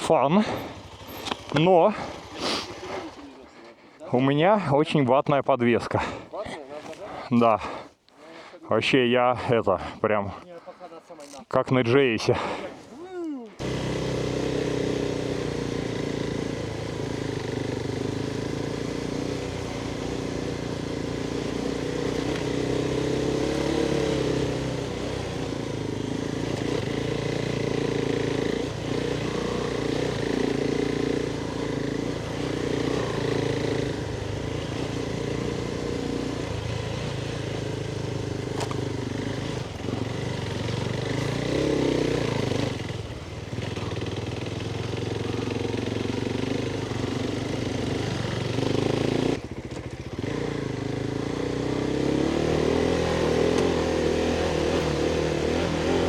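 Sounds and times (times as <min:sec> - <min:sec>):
motorcycle engine running: 0:00.0 - 0:03.5, 0:13.6 - 0:56.0.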